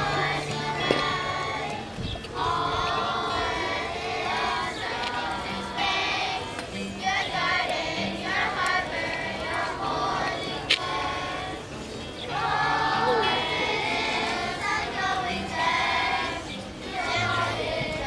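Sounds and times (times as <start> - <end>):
children's choir singing: 0.0 - 18.0
guitar accompaniment: 0.0 - 18.0.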